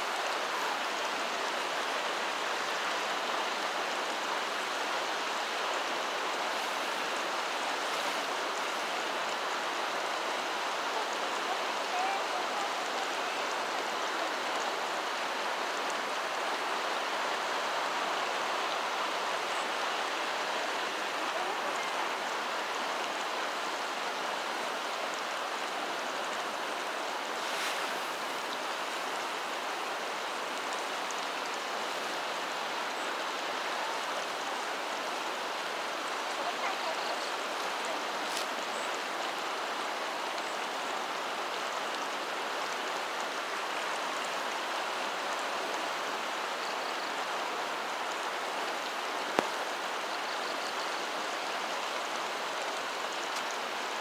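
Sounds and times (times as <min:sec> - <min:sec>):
water rushing: 0:00.0 - 0:50.4.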